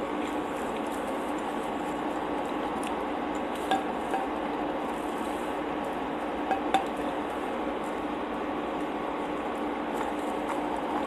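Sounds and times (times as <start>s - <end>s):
steady hiss with faint hum: 0.0s - 11.0s.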